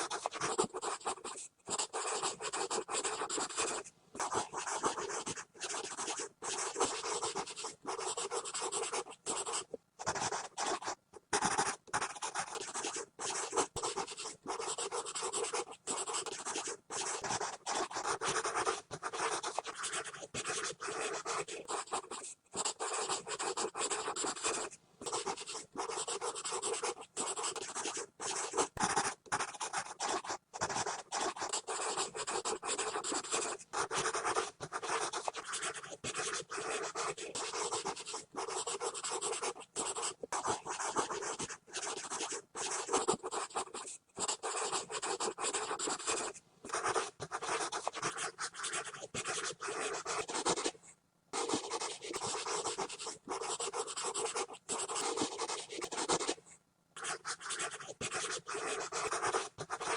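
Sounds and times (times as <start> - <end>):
pencil scribbling on paper: 0.0 - 50.8, 51.4 - 56.4, 57.0 - 59.9.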